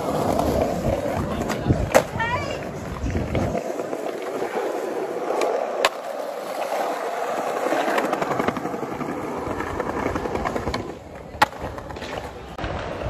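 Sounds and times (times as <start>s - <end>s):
skateboard clack: 0.0s - 13.0s
skateboard wheels rolling on stone: 0.0s - 13.0s.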